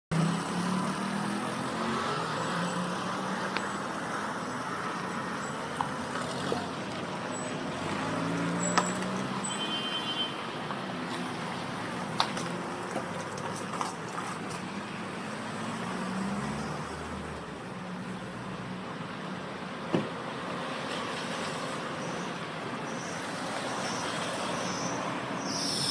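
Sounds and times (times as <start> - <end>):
traffic passing: 0.1 - 25.9.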